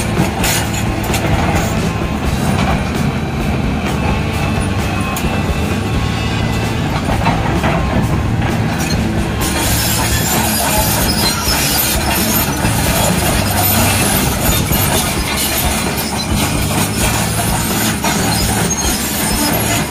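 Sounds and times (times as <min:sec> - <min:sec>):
diesel engine running: 0:00.0 - 0:19.9
track links clattering: 0:00.0 - 0:19.9.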